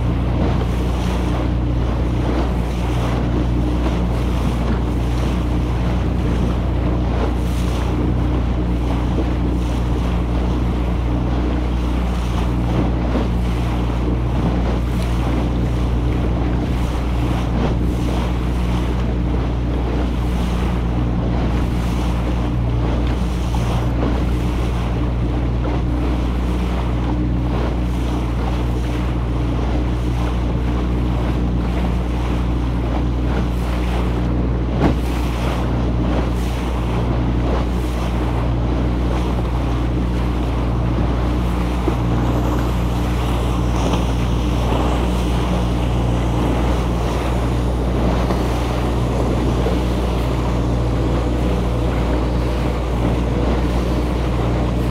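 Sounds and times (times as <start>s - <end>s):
boat engine running: 0.0s - 54.9s
water rushing along hull: 0.0s - 54.9s
wind buffeting microphone: 0.0s - 54.9s.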